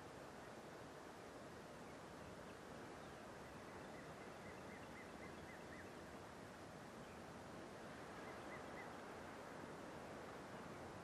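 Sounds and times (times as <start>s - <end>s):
wind hiss: 0.0s - 11.0s.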